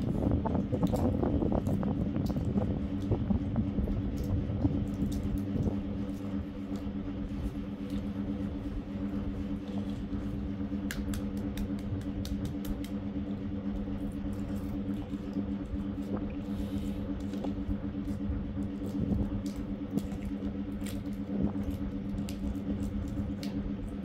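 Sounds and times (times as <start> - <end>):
low mechanical hum: 0.0 - 24.0
eggshell clicks and crackles: 0.6 - 7.0, 9.6 - 24.0.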